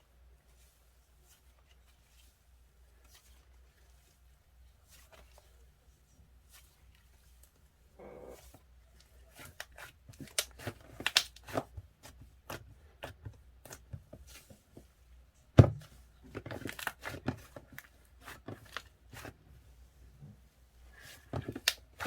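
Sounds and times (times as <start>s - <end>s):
handling crinkles and rustles: 0.2s - 22.0s.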